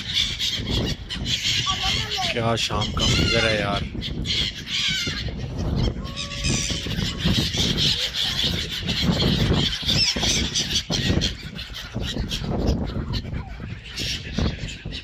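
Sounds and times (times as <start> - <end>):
ducks and waterbirds calling: 0.0 - 15.0.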